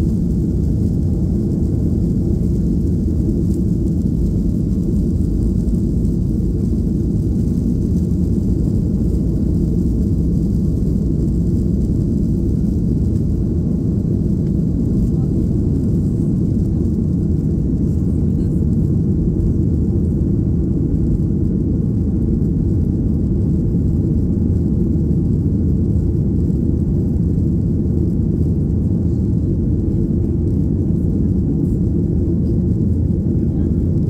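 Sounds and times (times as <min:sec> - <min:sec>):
jet engines and rushing airflow: 0:00.0 - 0:34.0.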